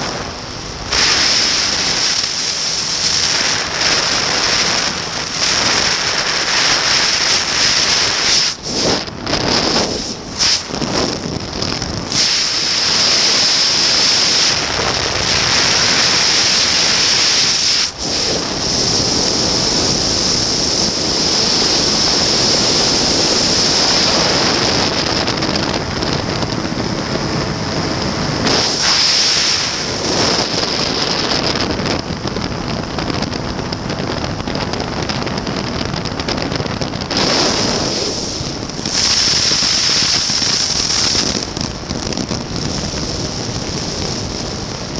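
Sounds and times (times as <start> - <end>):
aircraft engine drone: 0.0 - 44.9
wind buffeting microphone: 0.0 - 44.9.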